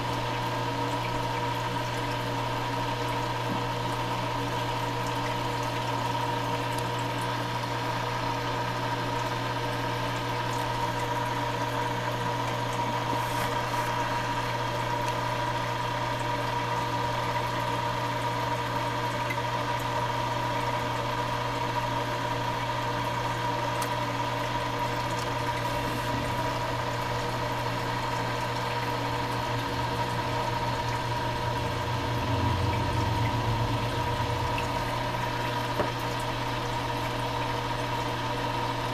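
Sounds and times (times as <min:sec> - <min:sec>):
aquarium pump humming: 0:00.0 - 0:38.9.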